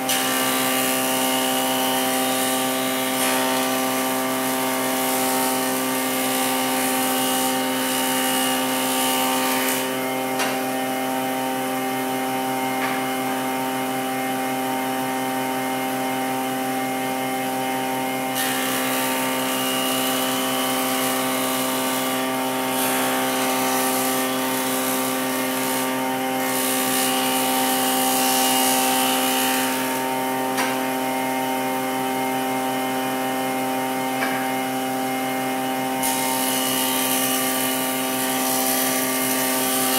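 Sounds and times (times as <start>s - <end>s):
woodworking machine humming: 0.0s - 39.9s.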